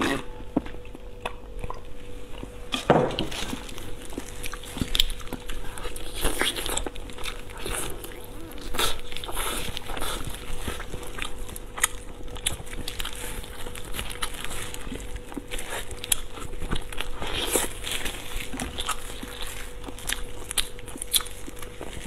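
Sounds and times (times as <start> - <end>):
plastic gloves crinkling: 2.9 - 22.0
wet chewing and lip smacks: 3.7 - 22.0.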